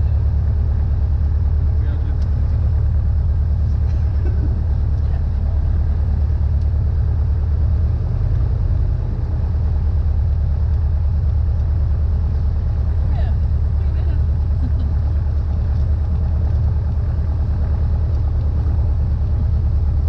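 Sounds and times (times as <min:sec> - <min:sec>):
airplane piston engine droning: 0:00.0 - 0:20.0.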